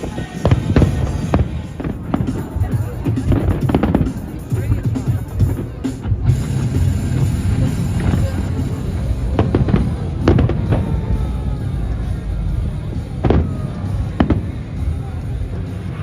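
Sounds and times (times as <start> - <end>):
fireworks bangs: 0.0 - 14.8
heavy metal music: 0.0 - 16.0.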